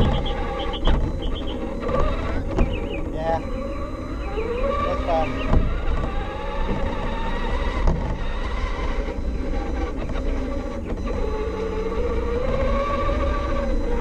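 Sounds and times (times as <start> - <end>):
rc truck motor whine: 0.0 - 14.0
tyres rumbling on pavement: 0.0 - 14.0.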